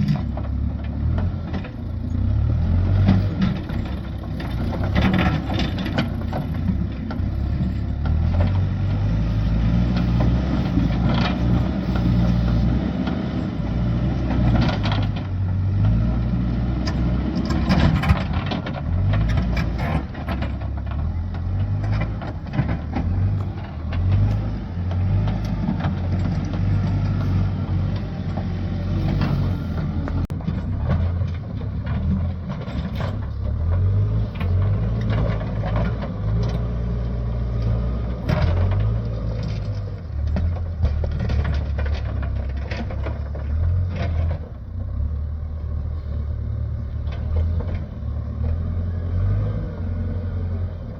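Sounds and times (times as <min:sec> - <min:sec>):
clanks of rubble and stones: 0:00.0 - 0:16.0, 0:16.8 - 0:36.8, 0:37.5 - 0:45.0
excavator diesel engine working: 0:00.0 - 0:50.9.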